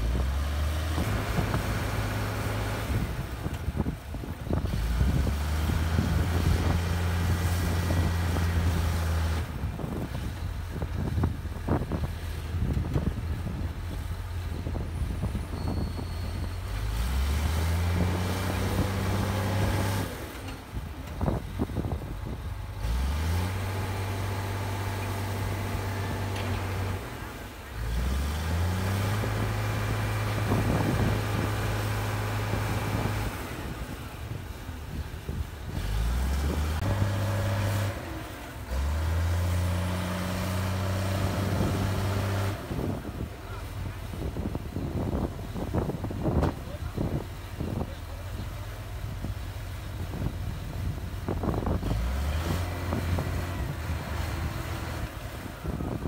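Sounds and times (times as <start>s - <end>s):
bulldozer diesel engine straining: 0.0s - 56.0s.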